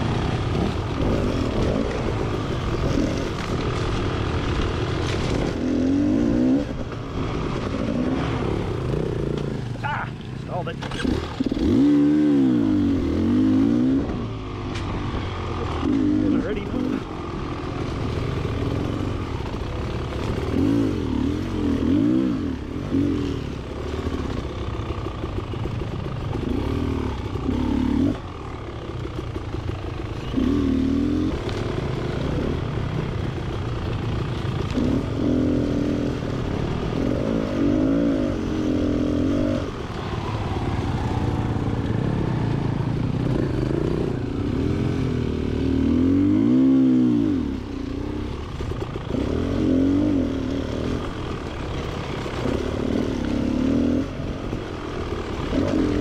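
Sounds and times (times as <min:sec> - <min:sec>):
two-stroke motorbike engine revving: 0:00.0 - 0:56.0.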